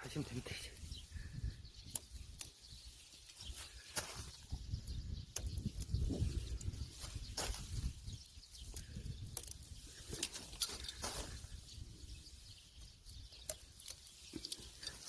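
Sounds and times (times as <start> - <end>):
leaves and stems rustling: 0.0 - 15.0.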